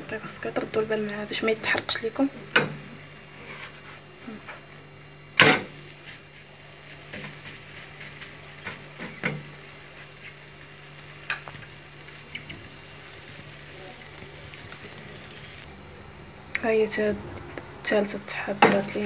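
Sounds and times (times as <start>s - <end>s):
crepe sizzling in frying pan: 0.1s - 15.7s, 17.9s - 19.0s.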